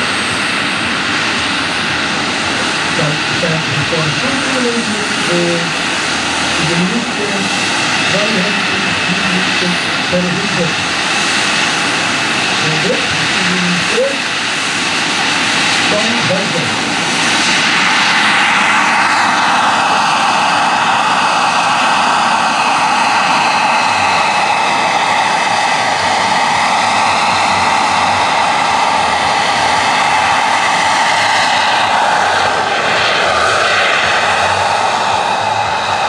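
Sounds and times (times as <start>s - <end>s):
helicopter rotor rush: 0.0s - 36.0s
model helicopter turbine whine: 0.0s - 36.0s.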